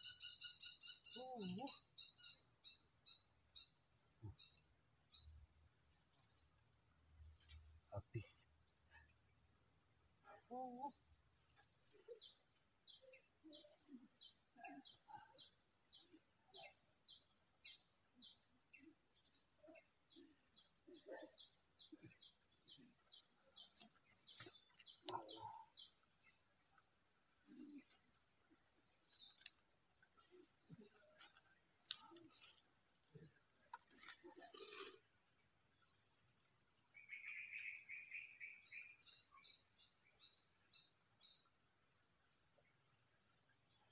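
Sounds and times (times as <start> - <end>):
high-pitched insect drone: 0.0 - 43.9.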